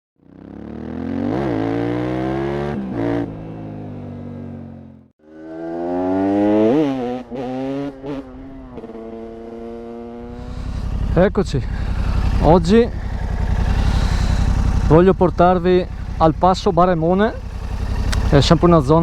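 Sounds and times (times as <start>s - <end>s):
motorcycle engine revving: 0.2s - 19.0s.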